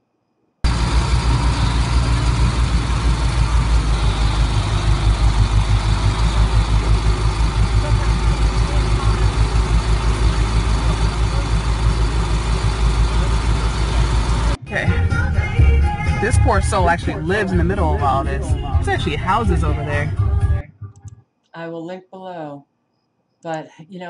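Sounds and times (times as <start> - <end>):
vehicle engine rumbling: 0.6 - 21.2.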